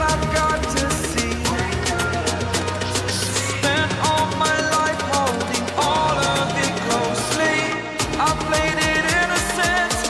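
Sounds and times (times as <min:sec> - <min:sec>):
background music with quick beat: 0:00.0 - 0:10.0.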